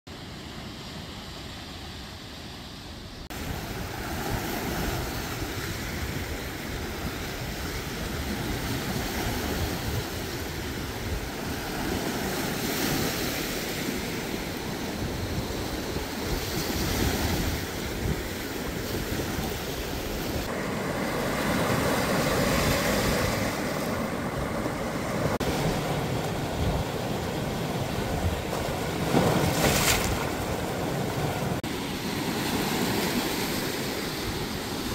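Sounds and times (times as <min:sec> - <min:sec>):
wind rumbling on microphone: 0:03.3 - 0:31.6
waves washing over rocks: 0:03.3 - 0:34.9.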